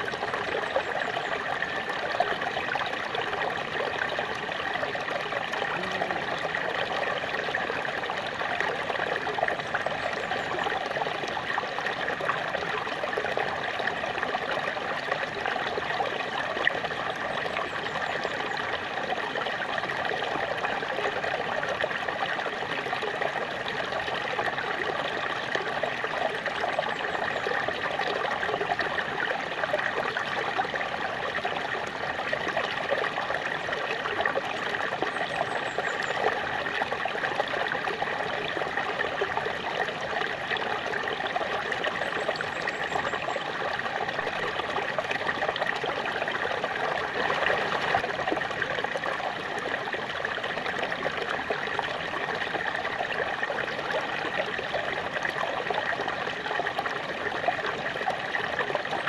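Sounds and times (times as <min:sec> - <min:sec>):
water splashing over rocks: 0:00.0 - 0:17.2, 0:26.0 - 0:59.0.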